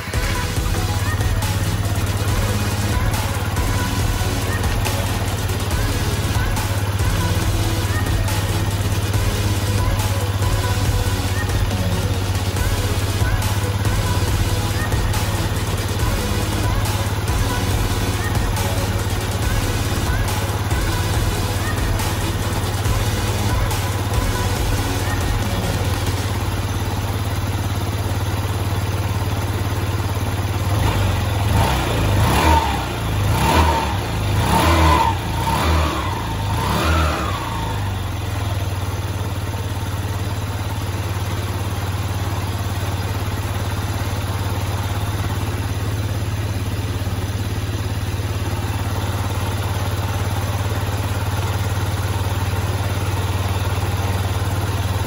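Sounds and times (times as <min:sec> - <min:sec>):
scooter engine idling: 0:00.0 - 0:55.0.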